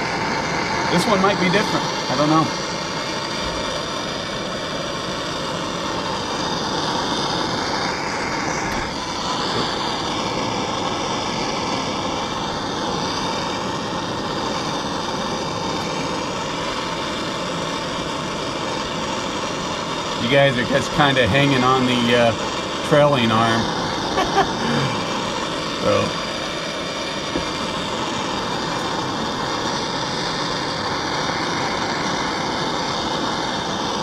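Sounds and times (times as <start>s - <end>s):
gas torch hissing: 0.0s - 34.0s.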